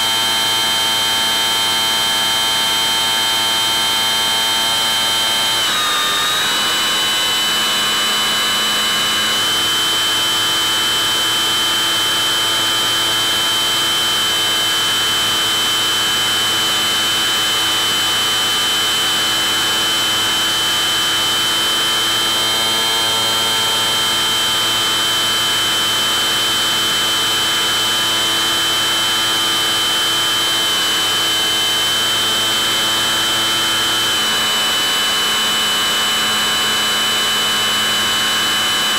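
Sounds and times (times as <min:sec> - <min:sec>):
electric propeller motor whine: 0:00.0 - 0:38.9.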